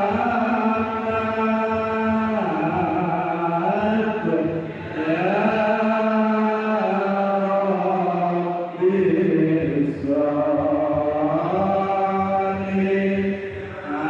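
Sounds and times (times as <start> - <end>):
voices chanting long notes: 0.0 - 14.0.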